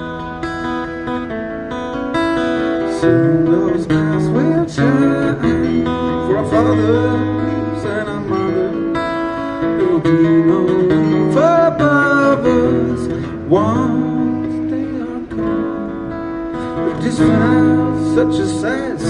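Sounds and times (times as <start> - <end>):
acoustic guitar strumming: 0.0 - 19.0
man singing: 2.7 - 19.0.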